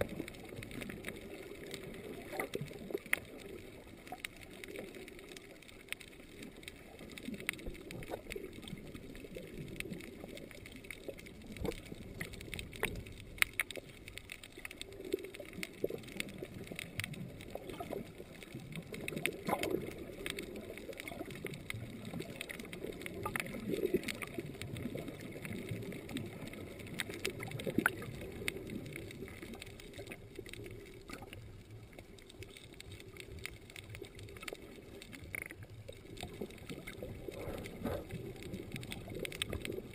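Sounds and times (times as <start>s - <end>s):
muffled underwater water wash: 0.0s - 39.9s
underwater clicks and crackles: 0.0s - 39.9s.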